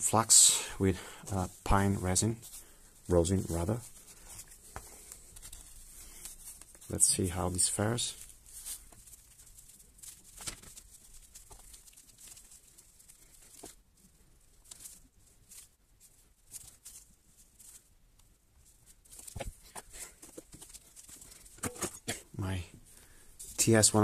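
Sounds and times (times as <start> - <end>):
gloved hands rustling wires: 0.0 - 24.0.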